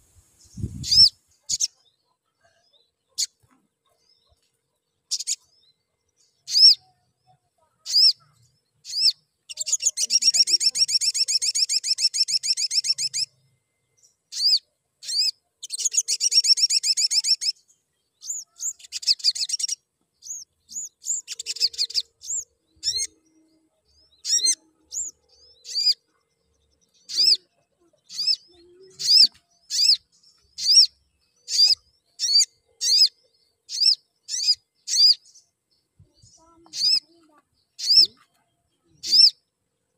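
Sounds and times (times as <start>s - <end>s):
bird chirping and trilling: 0.0s - 39.5s.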